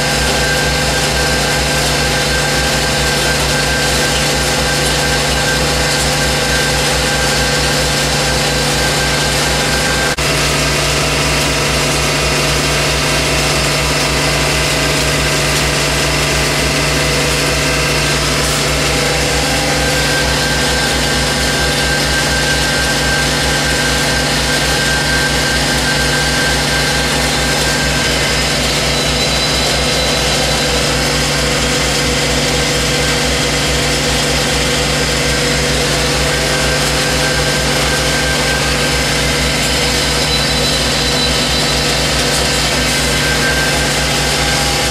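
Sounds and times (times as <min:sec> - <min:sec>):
grout pump droning and throbbing: 0:00.0 - 0:44.9.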